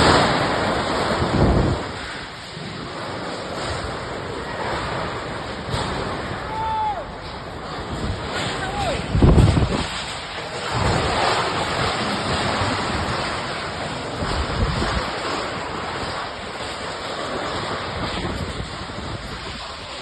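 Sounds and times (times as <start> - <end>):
strong gusty wind: 0.0 - 20.0.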